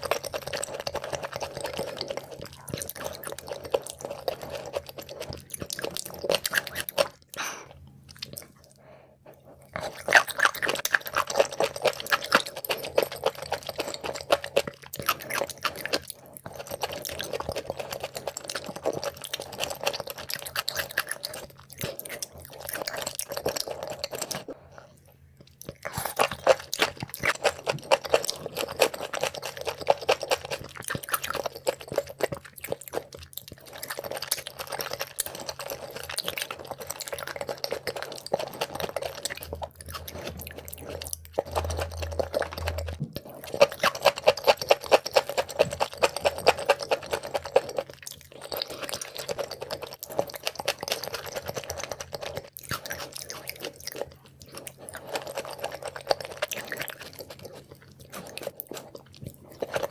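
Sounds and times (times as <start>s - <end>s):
wet chewing of raw liver: 0.0s - 59.9s.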